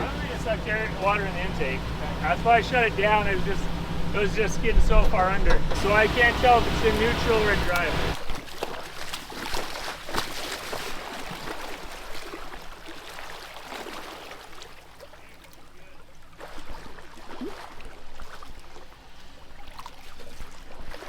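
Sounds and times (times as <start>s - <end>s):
river water sloshing and splashing: 0.0s - 21.0s.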